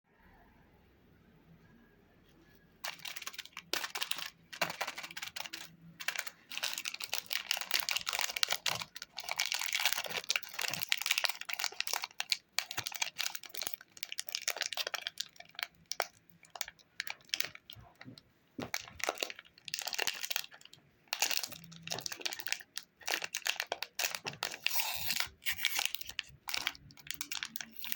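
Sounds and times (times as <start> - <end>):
candy wrapper crinkling: 2.8 - 27.9.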